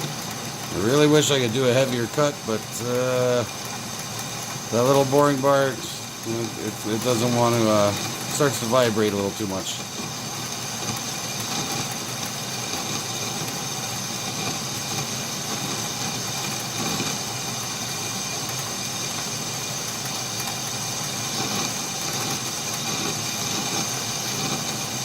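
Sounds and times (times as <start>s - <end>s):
metal lathe running: 0.0s - 25.0s.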